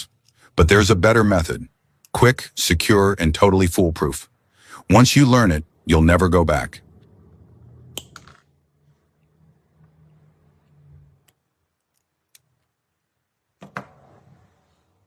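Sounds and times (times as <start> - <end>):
faint low hum: 0.0 - 14.1.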